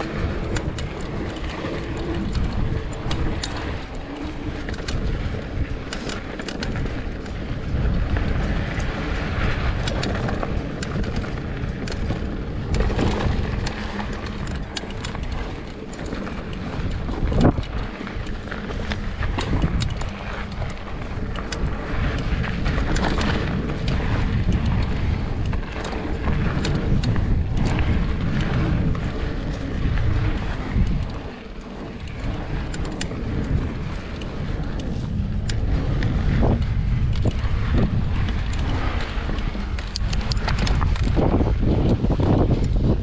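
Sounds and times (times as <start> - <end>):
bike clicks and rattles: 0.0 - 43.0
bike tyres rolling on dirt: 0.0 - 43.0
wind buffeting microphone: 0.0 - 43.0.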